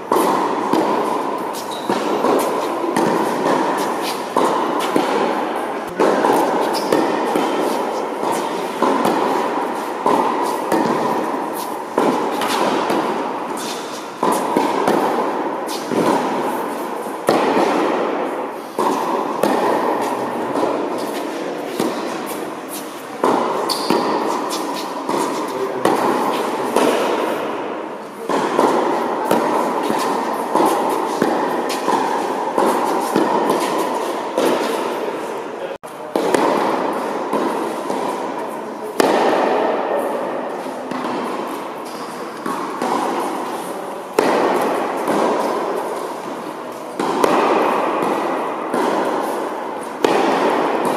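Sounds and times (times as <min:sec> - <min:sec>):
tennis ball hits with echo: 0:00.0 - 0:50.9.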